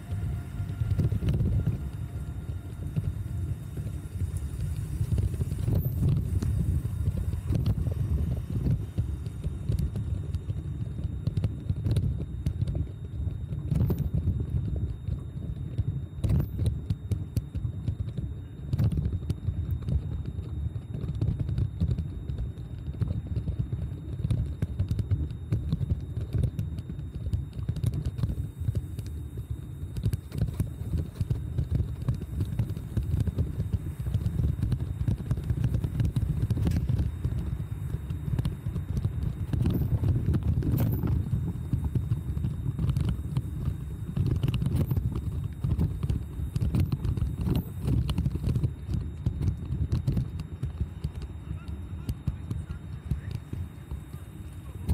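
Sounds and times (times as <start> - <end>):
wind and ride rumble: 0.0 - 54.9.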